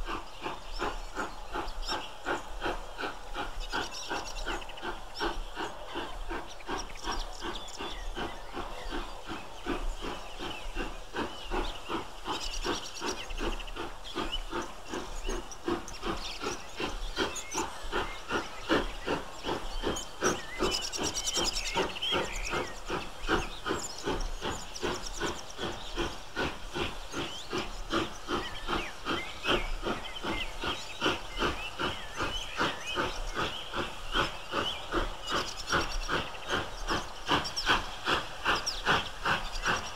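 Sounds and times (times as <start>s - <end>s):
steam hiss: 0.0s - 39.9s
steam locomotive exhaust beats: 0.0s - 39.9s.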